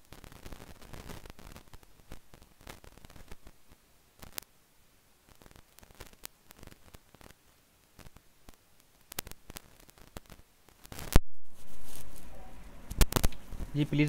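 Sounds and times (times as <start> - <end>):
crackling static: 0.0 - 14.0
steady hiss: 0.0 - 14.0.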